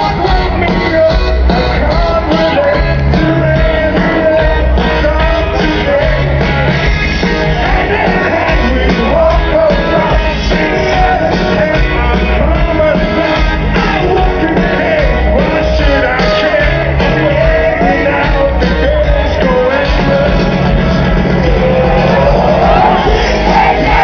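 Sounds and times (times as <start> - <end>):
person singing: 0.0 - 24.0
rock band playing live: 0.0 - 24.0.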